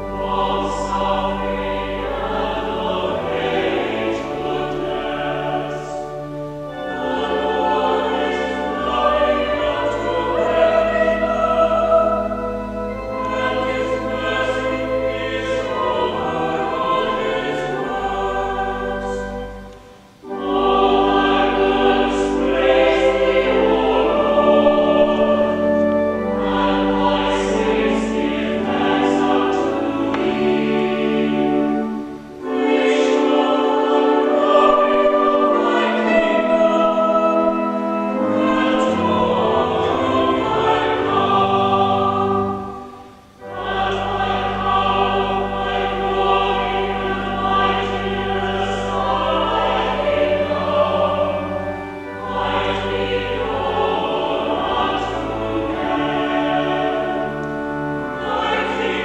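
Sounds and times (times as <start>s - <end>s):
choir singing in parts: 0.0s - 59.0s.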